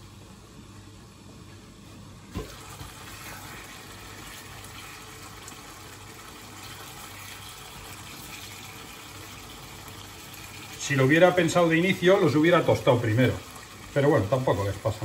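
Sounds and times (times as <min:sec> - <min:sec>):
stew bubbling in a pan: 0:02.3 - 0:15.0.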